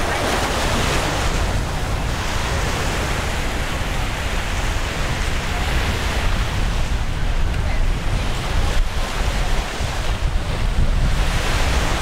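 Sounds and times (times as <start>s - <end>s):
ocean surf: 0.0s - 12.0s
wind rumbling on microphone: 0.0s - 12.0s.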